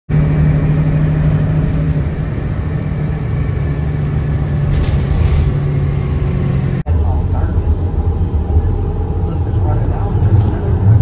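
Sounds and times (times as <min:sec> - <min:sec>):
vehicle rumble and hum: 0:00.1 - 0:11.0.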